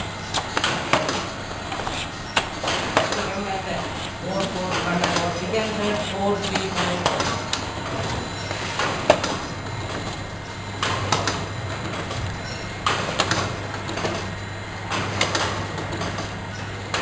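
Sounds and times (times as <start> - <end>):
packing machine humming: 0.0 - 17.0.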